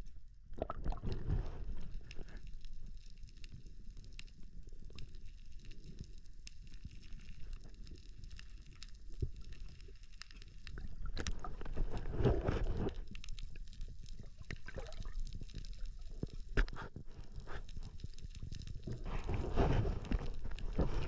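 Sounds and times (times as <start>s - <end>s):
water sloshing and gurgling: 0.5s - 3.5s, 6.8s - 21.0s.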